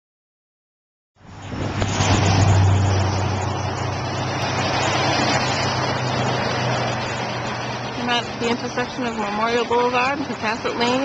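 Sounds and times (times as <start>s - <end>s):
vehicle engine and tyre noise: 1.2s - 11.0s.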